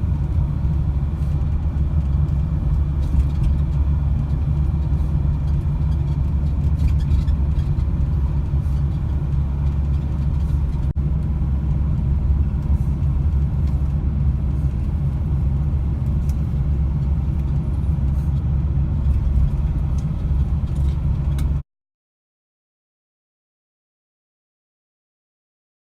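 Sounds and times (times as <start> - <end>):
vehicle driving rumble: 0.0 - 21.6.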